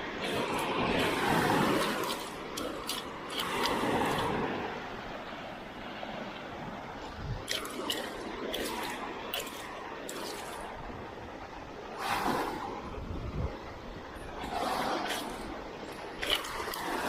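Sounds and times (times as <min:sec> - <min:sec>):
seawater splashing: 0:00.0 - 0:17.0
steady rushing water: 0:00.0 - 0:17.0.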